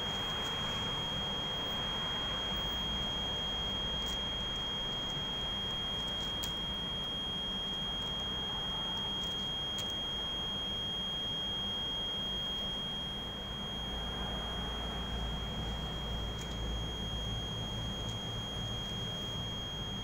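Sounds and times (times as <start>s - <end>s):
steady high-pitched tone: 0.0s - 20.0s.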